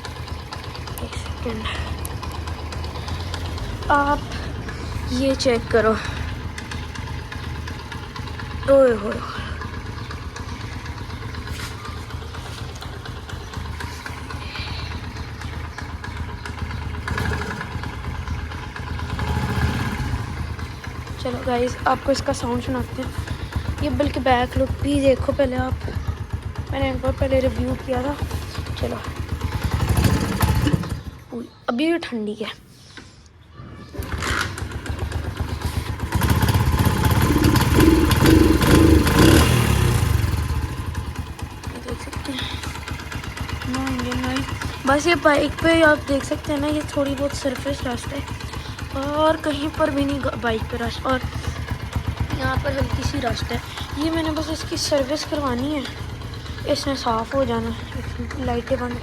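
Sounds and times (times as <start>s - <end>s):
motorcycle engine idling: 0.0s - 31.6s, 34.0s - 59.0s.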